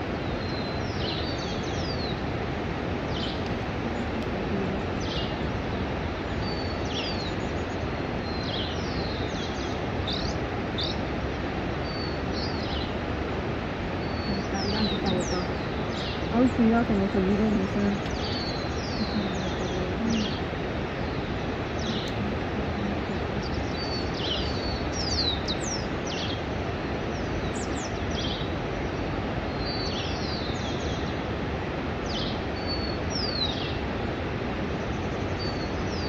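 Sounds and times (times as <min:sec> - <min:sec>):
steady rushing background noise: 0:00.0 - 0:36.0.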